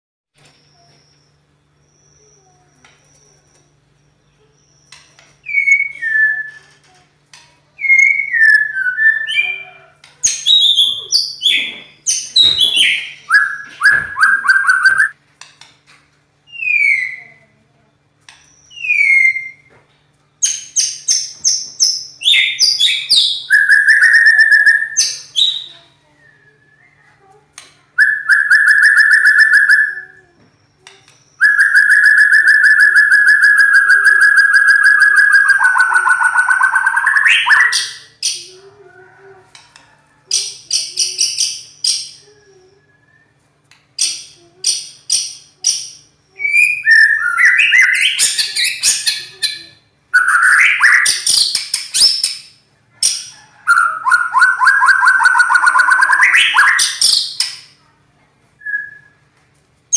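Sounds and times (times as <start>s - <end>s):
bird singing trills: 0.4s - 15.2s, 20.4s - 27.4s, 28.0s - 39.6s, 40.2s - 43.4s, 44.0s - 57.7s.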